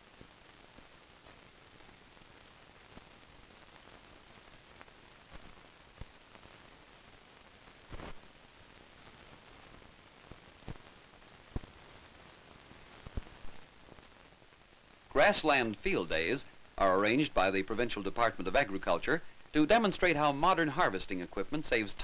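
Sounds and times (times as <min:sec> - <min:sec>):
old film soundtrack hiss: 0:00.0 - 0:22.0
scattered clicks and pops: 0:00.1 - 0:19.8.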